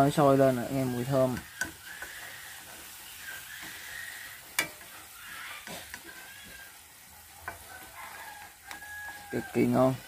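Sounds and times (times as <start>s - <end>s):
glaze sizzling and bubbling: 0.0s - 10.0s.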